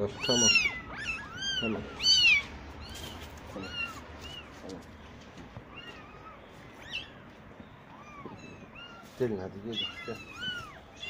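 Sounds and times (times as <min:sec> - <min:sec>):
kittens mewing: 0:00.0 - 0:11.0.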